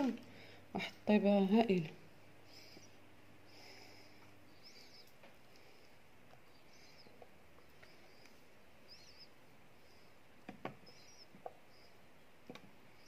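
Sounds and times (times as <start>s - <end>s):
small bird chirping: 2.4s - 13.0s.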